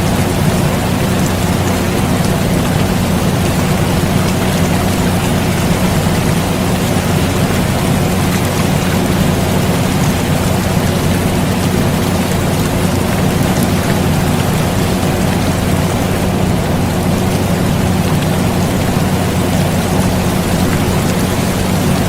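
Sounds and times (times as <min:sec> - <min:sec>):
air conditioner hum: 0:00.0 - 0:22.0
steady rain falling: 0:00.0 - 0:22.0.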